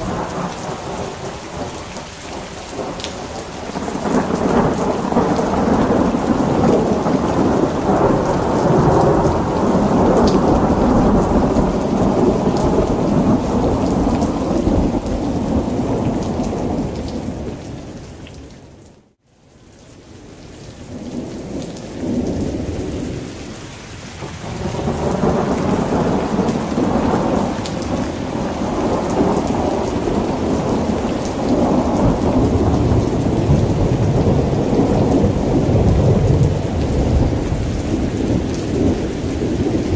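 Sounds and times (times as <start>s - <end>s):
low rolling thunder: 0.0s - 17.6s, 24.2s - 39.9s
heavy rain: 0.0s - 39.9s.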